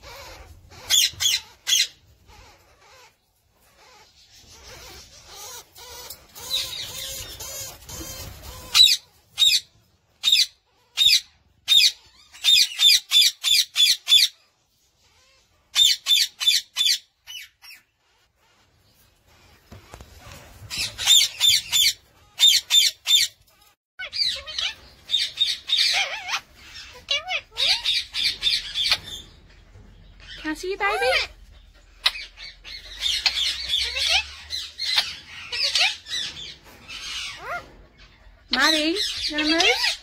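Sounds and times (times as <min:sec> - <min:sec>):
parakeet calling: 0:00.0 - 0:18.7, 0:19.3 - 0:40.0.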